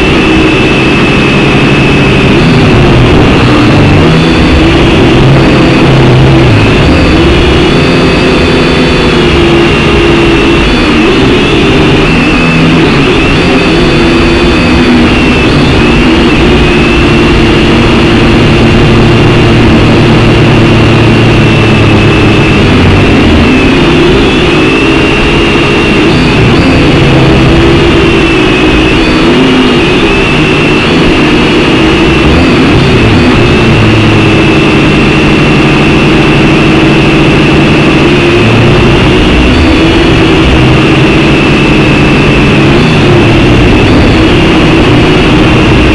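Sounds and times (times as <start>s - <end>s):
drone propellers whining: 0.0s - 45.9s.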